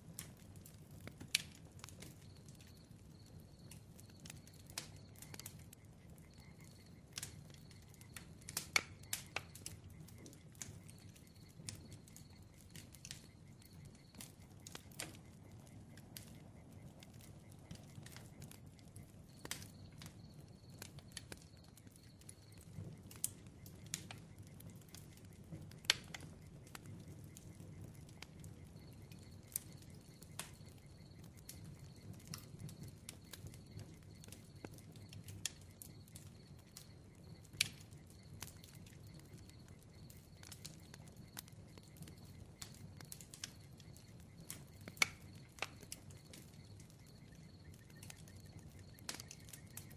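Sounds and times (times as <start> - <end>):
burning wood popping and snapping: 0.0 - 49.9
low rumble of flames: 0.0 - 49.9.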